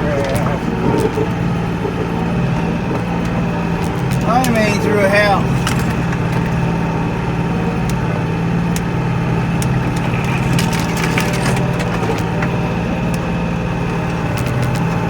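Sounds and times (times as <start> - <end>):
sharp clicks and cracks: 0.0 - 15.0
tractor diesel engine running: 0.0 - 15.0.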